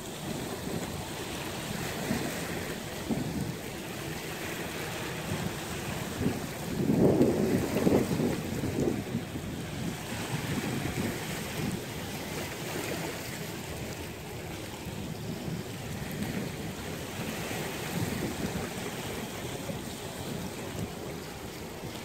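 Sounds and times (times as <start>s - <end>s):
small waves lapping on pebbles: 0.0s - 22.0s.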